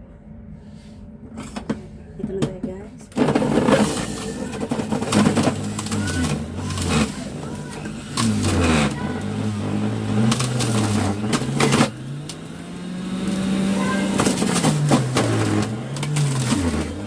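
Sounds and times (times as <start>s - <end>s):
juicer motor humming: 3.2s - 17.0s
carrot crunching: 3.3s - 17.0s.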